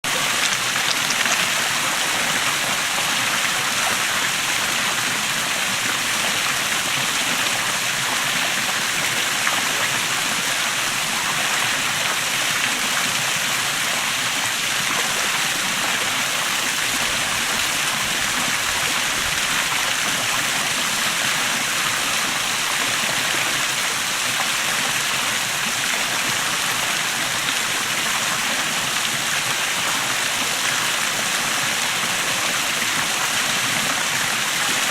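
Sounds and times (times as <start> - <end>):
waterfall splashing into stream: 0.1 - 34.9.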